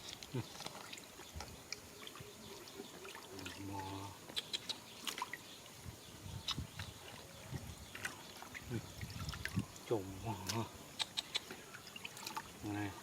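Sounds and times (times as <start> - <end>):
small sharp splashes: 0.0 - 5.5, 6.4 - 12.8
water splashing and dripping: 0.0 - 13.0.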